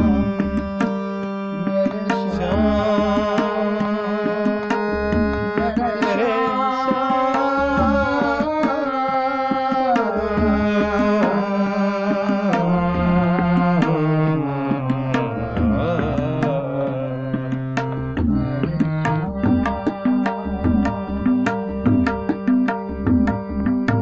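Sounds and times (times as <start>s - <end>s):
person singing: 0.0s - 22.4s
harmonium chords and melody: 0.0s - 24.0s
tabla strokes: 0.0s - 24.0s.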